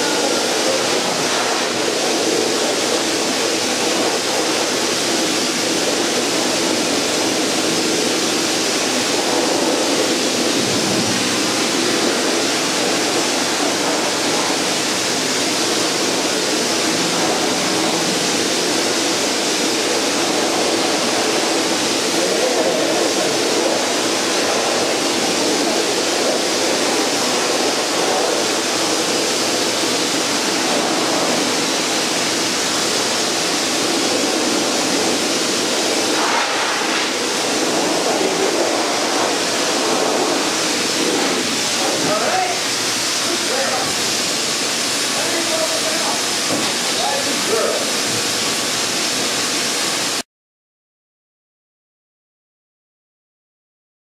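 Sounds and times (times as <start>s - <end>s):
hose water rushing: 0.0s - 50.2s.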